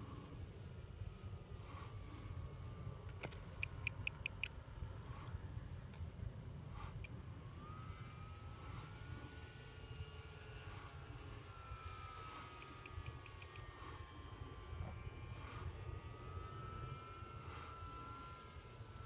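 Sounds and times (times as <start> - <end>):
model airplane motor whine: 0.0 - 19.0
wind rumble on microphone: 0.0 - 19.0.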